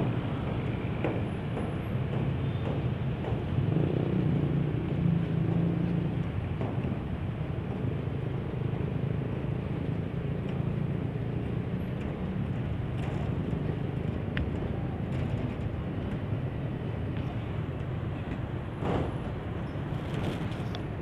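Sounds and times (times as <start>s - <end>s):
locomotive engine droning: 0.0s - 21.0s.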